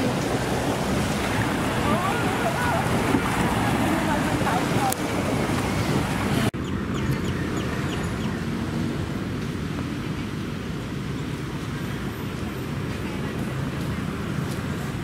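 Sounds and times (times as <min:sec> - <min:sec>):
distant traffic hum: 0:00.0 - 0:15.0
wind and surf: 0:00.0 - 0:15.0.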